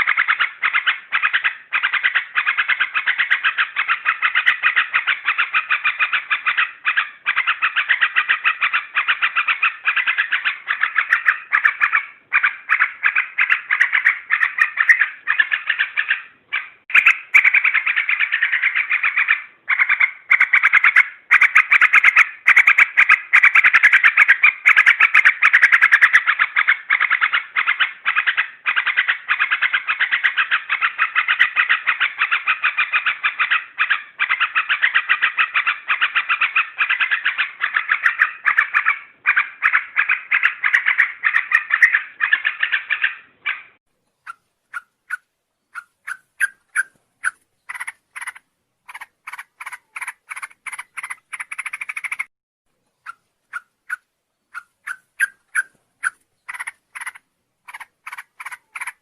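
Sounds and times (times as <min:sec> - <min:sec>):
bulbul rapid chattering song: 0:00.0 - 0:59.0.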